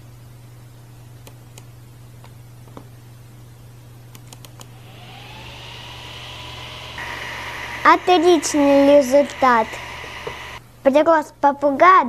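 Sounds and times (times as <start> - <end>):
cooling fans whirring: 0.0 - 10.9.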